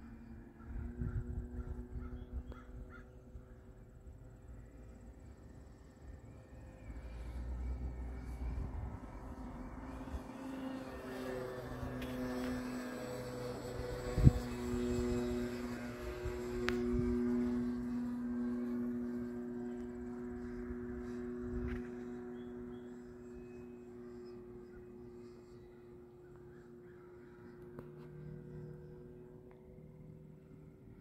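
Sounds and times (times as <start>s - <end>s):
model plane motor droning: 0.0s - 31.0s.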